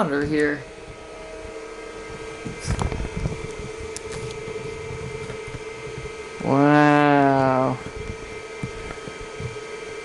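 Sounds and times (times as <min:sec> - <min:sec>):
computer fan and drive whirring: 0:00.0 - 0:10.0
steady hum tone: 0:00.0 - 0:10.0.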